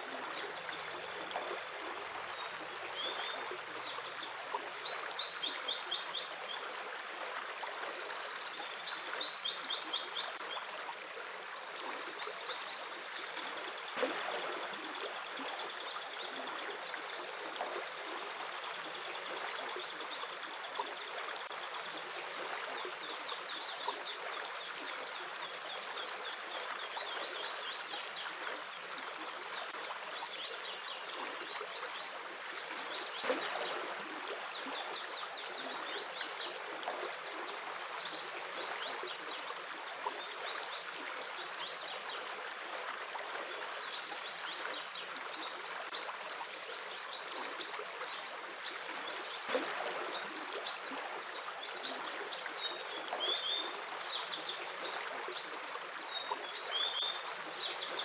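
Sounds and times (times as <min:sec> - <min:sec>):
stream running: 0:00.0 - 0:58.0
water gurgling: 0:00.0 - 0:58.0.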